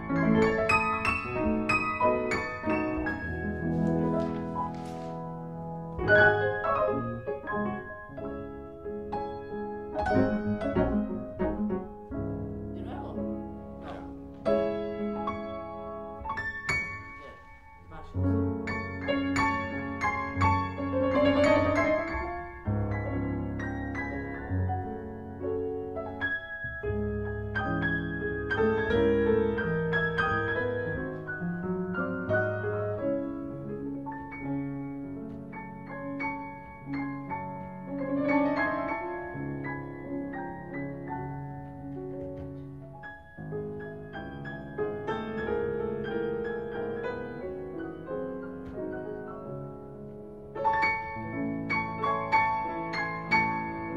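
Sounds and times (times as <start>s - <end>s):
two pianos playing classical music: 0.0s - 53.9s.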